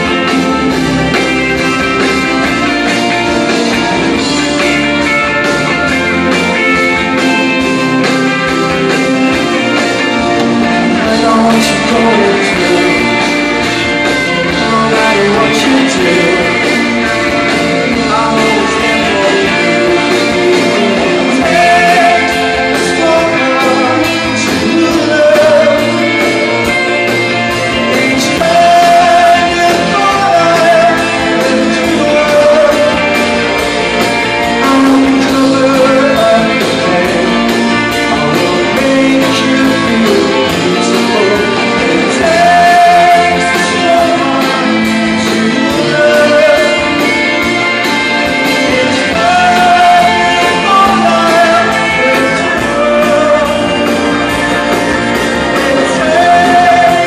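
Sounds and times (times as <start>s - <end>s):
live rock band playing: 0.0s - 57.0s
man singing: 0.0s - 57.0s.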